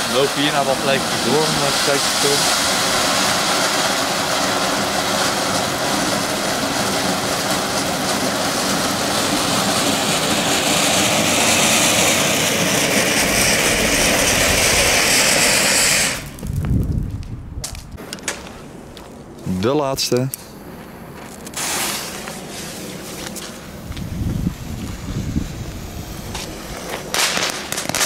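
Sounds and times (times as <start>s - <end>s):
firework fountain hissing: 0.0s - 17.0s, 20.5s - 28.0s.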